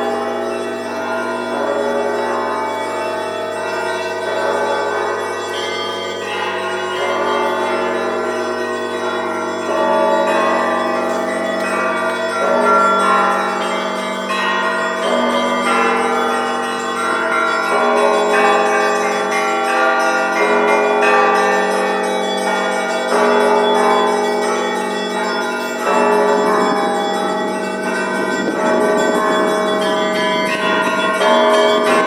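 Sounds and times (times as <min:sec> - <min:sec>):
church bells pealing: 0:00.0 - 0:32.0
larger bells ringing: 0:00.0 - 0:32.0.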